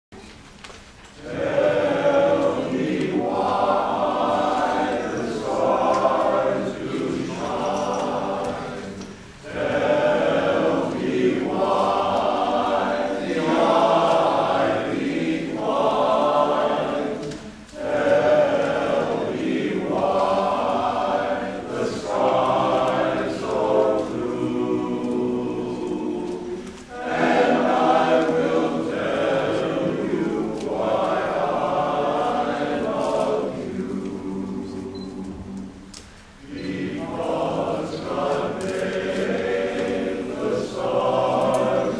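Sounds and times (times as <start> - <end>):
men's chorus singing: 1.2 - 41.9.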